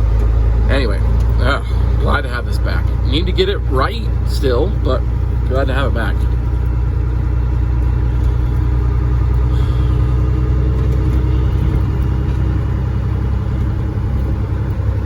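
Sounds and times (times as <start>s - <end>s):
truck diesel engine drone: 0.0s - 15.0s.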